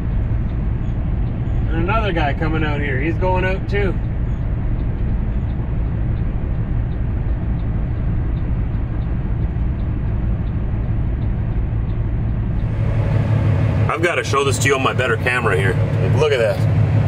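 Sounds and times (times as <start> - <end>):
diesel engine idling: 0.0 - 17.0
faint regular ticking: 0.0 - 17.0.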